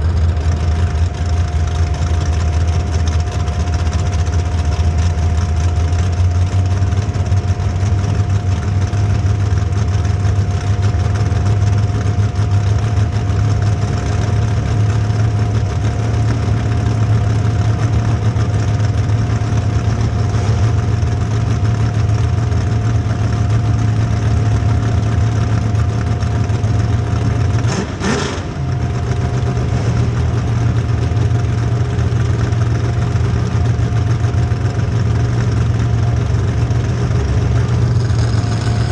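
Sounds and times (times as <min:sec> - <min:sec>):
car engines droning loudly: 0:00.0 - 0:38.9.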